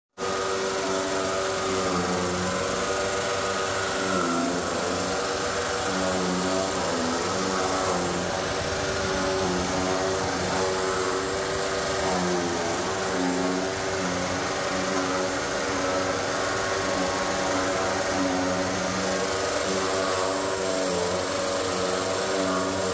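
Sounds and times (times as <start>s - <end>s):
chaff cutters whining: 0.2s - 22.9s
grass being chopped: 0.2s - 22.9s.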